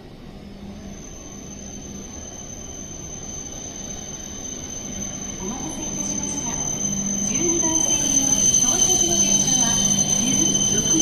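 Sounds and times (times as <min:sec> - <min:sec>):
high-speed train running noise: 0:00.0 - 0:11.0
high-pitched brake squeal: 0:00.5 - 0:11.0.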